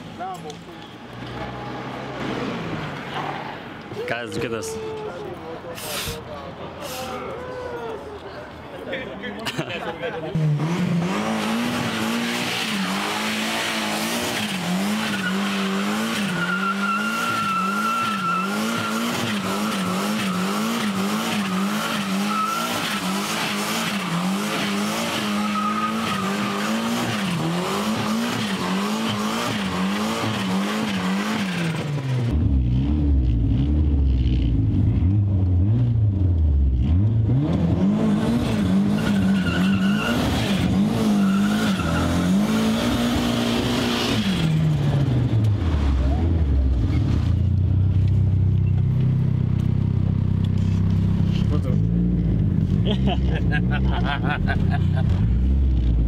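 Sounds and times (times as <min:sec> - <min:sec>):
car engine revving: 0:10.3 - 0:56.0.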